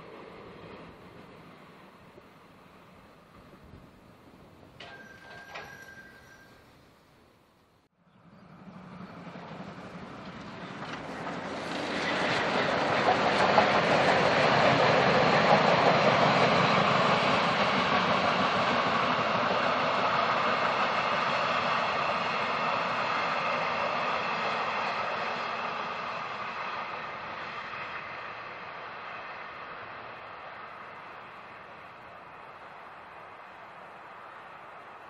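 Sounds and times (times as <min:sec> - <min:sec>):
steam train rumbling past: 0:00.0 - 0:07.2, 0:08.2 - 0:35.0.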